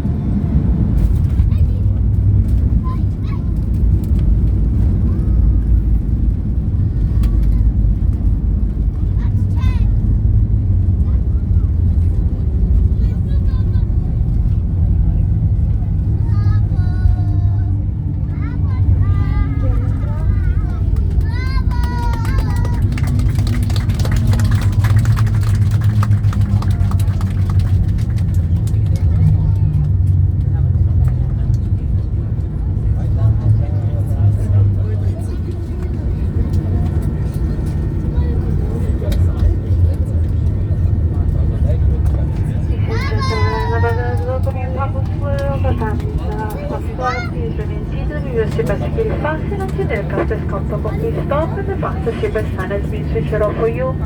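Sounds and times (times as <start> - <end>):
airliner cabin rumble: 0.0 - 54.0
faint voices: 0.2 - 54.0.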